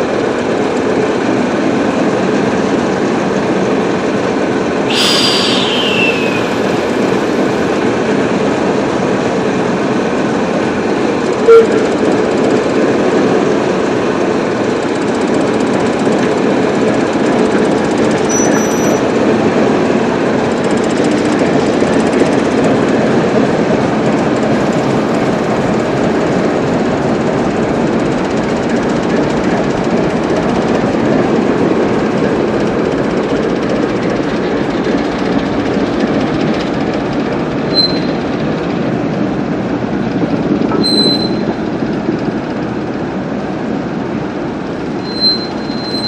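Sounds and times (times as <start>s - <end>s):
diesel locomotive engine chugging: 0.0s - 46.0s.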